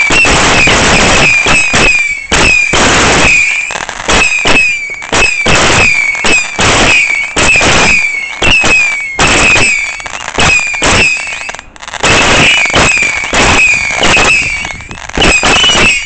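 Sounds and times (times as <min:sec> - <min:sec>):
falling firework whistles: 0:00.0 - 0:16.0
fireworks barrage of bangs: 0:00.0 - 0:16.0.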